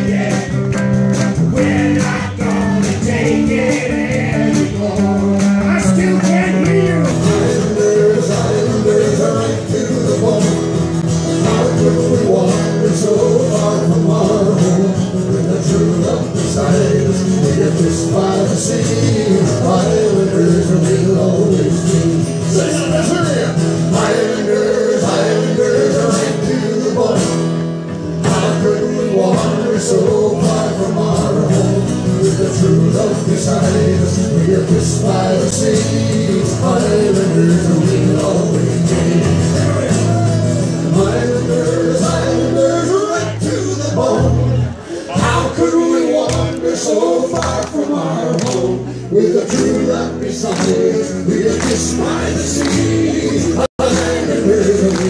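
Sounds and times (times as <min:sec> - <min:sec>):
acoustic guitars strummed: 0:00.0 - 0:55.0
person singing: 0:01.5 - 0:27.5, 0:28.2 - 0:55.0.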